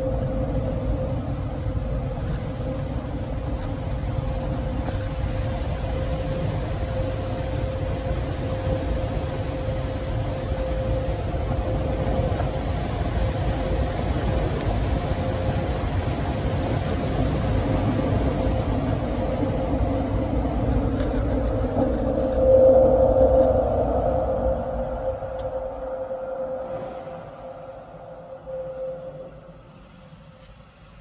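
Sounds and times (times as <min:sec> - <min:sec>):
car engine rumble inside cabin: 0:00.0 - 0:31.0.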